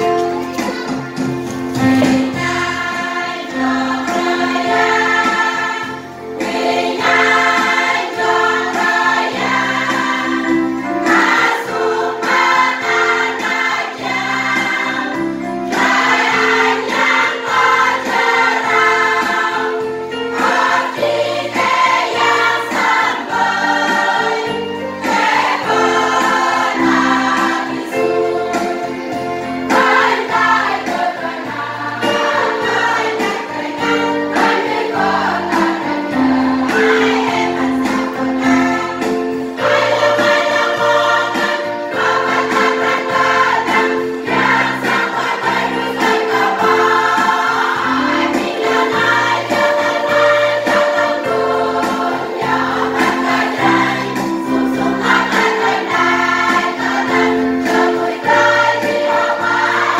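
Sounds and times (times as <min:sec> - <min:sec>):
choir singing a hymn: 0:01.7 - 0:59.9.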